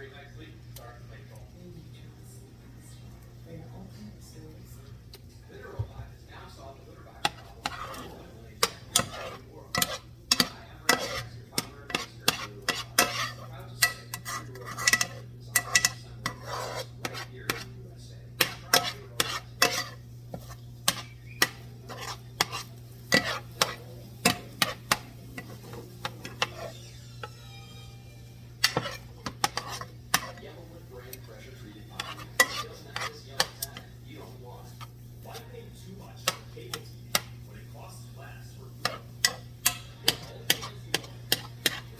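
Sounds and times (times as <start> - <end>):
steady low hum: 0.0 - 41.9
metal utensil scraping a pot: 7.2 - 41.9.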